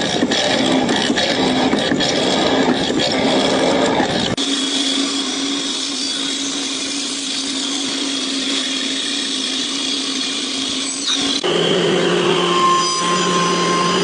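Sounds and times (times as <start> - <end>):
power tool humming: 0.0 - 14.0.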